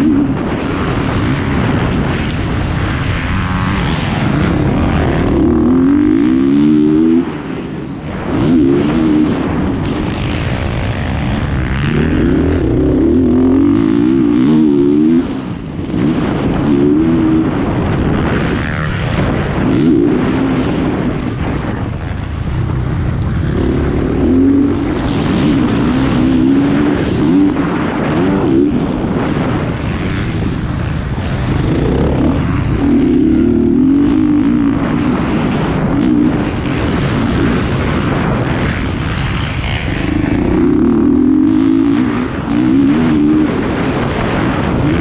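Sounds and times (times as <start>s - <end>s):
motocross bike engine revving: 0.0s - 45.0s.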